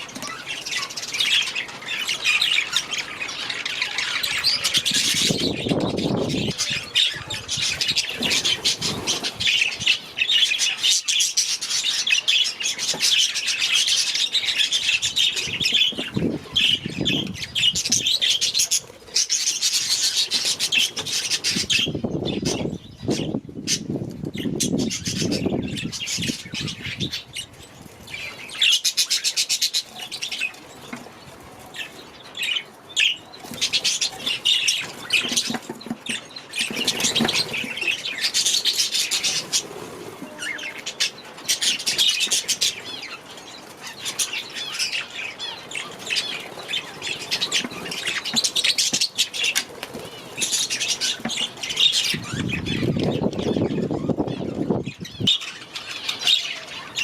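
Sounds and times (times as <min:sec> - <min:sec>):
budgerigars chattering and chirping: 0:00.0 - 0:31.1, 0:31.7 - 0:57.0.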